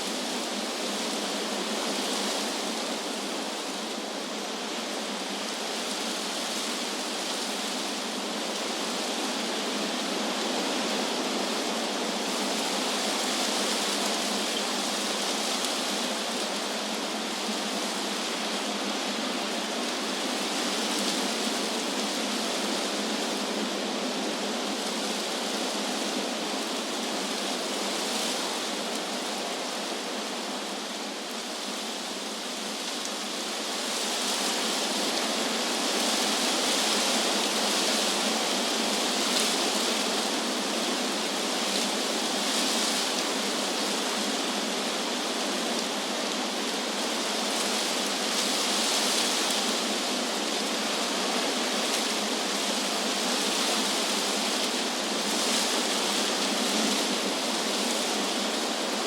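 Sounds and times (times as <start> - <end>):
wind rushing through leaves: 0.0 - 59.0.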